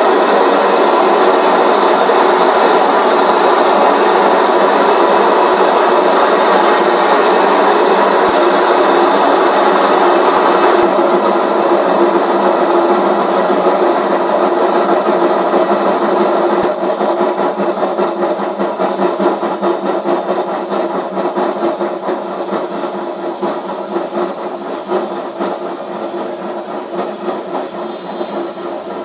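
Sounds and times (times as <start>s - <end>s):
washing machine drum spinning: 0.0s - 29.0s.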